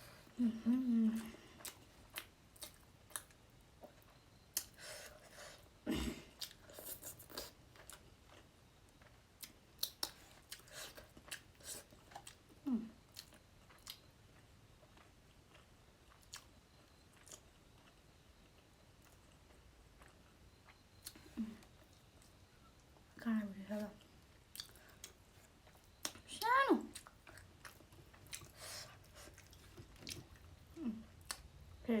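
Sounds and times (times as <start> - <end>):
person chewing with mouth clicks: 1.2 - 5.2, 6.4 - 23.0, 24.0 - 26.2, 26.9 - 31.5.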